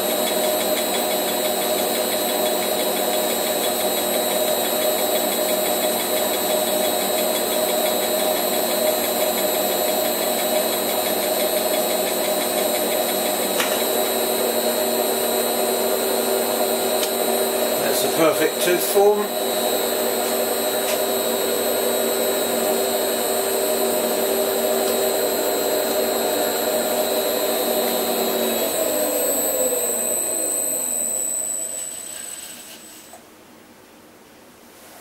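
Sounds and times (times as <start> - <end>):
lathe hob cutting gear: 0.0 - 32.5
motor humming: 0.1 - 32.4.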